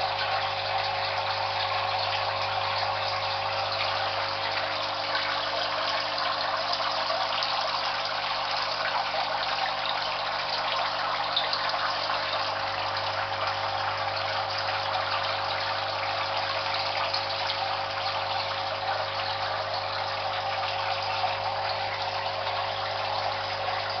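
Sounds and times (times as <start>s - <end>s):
aquarium pump hum: 0.0s - 24.0s
water bubbling and splashing: 0.0s - 24.0s.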